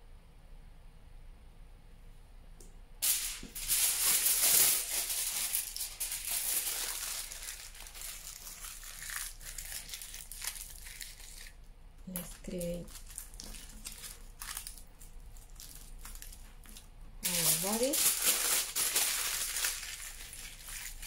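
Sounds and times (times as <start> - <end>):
foil crinkling: 3.0 - 21.0.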